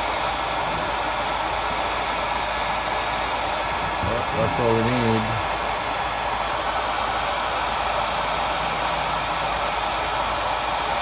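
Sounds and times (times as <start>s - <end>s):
hair dryer blowing: 0.0s - 11.0s.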